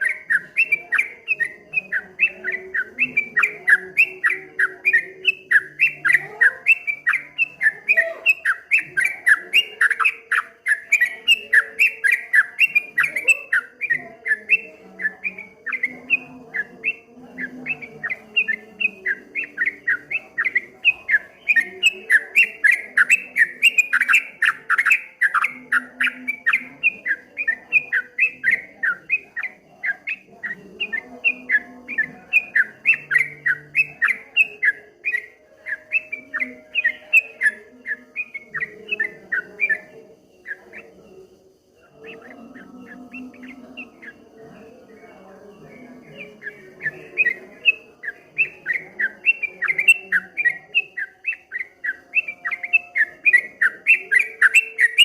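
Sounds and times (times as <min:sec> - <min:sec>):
bird singing rapid chirps: 0:00.0 - 0:55.0.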